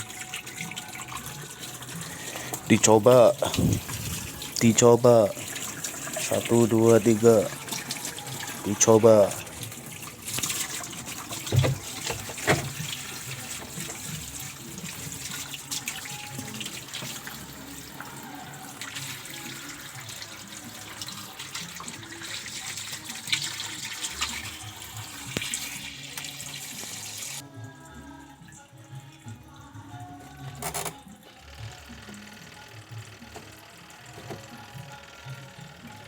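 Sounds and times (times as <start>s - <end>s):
water rushing into washing machine: 0.0s - 27.4s, 30.0s - 36.0s.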